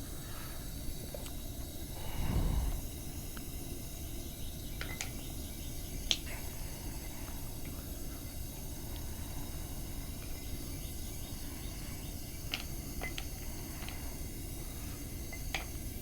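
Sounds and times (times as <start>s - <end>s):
furnace burner hissing: 0.0s - 16.0s.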